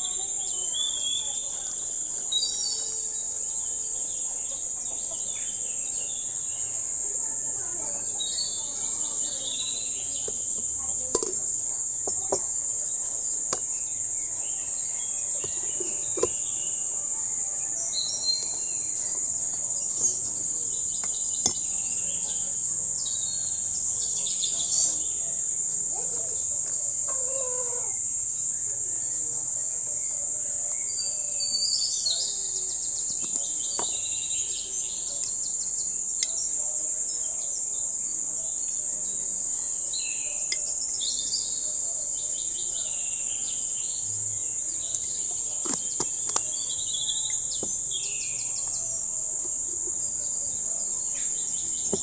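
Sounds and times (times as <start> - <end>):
birds chirping: 0.0 - 28.0, 29.3 - 52.0
insect trill: 0.0 - 52.0.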